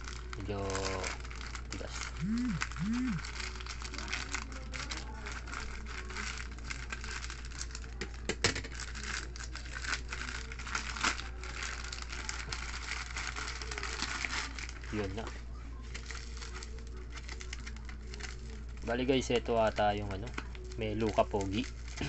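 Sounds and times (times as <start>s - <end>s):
plastic pouch crinkling: 0.0s - 22.0s.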